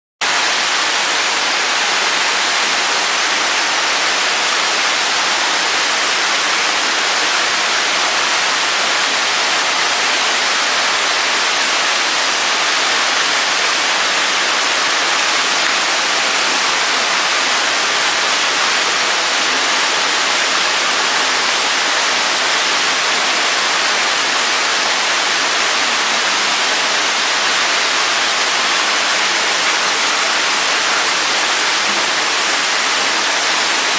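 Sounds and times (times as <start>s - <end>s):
water rushing in tank: 0.2s - 33.9s.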